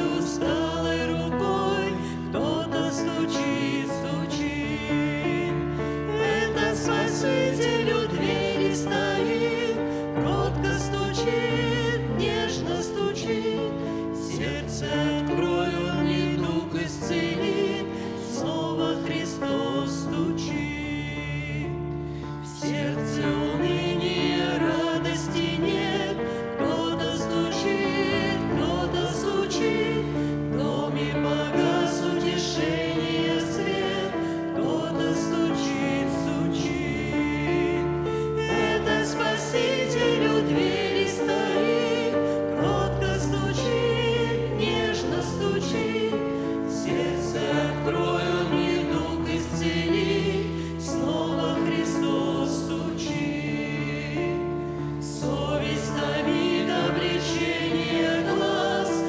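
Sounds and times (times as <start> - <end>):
church choir singing a hymn: 0.0 - 59.0.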